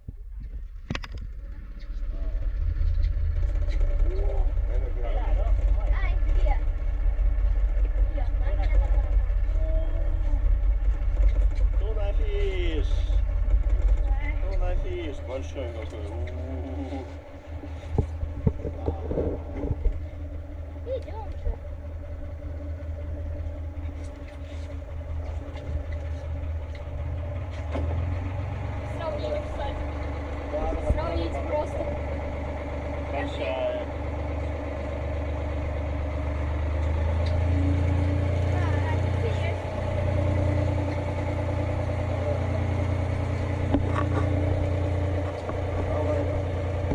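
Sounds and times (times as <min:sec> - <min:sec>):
boat engine droning: 0:00.0 - 0:46.9.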